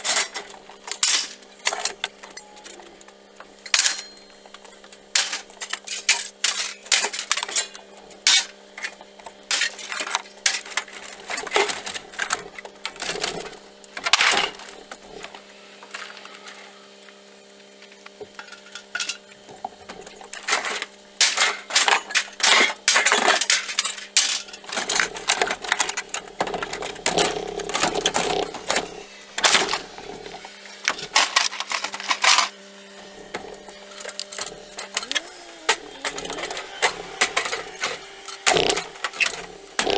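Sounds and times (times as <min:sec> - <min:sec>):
scrap metal clanking and scraping: 0:00.0 - 0:02.9, 0:03.6 - 0:16.7, 0:18.4 - 0:39.9
steady low hum: 0:00.0 - 0:39.9.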